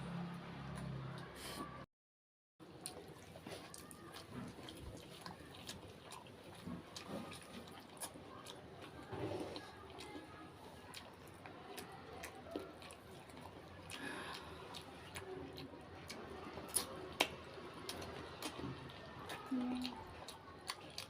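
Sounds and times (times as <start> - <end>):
person chewing: 2.6 - 21.0.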